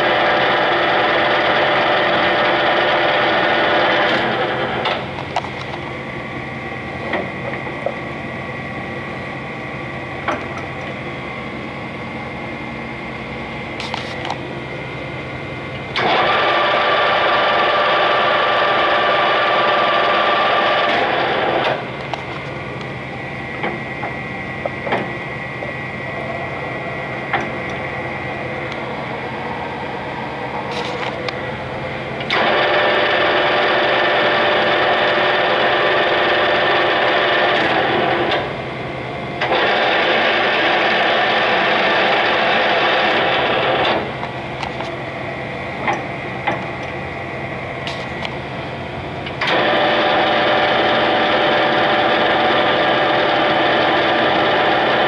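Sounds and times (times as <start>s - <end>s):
lathe whine and gear noise: 0.0s - 55.0s.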